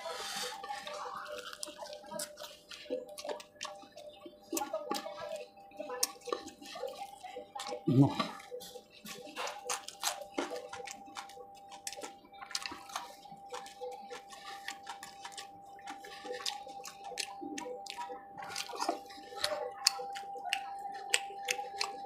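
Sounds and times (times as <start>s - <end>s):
wet chewing and mouth clicks: 0.0s - 22.0s.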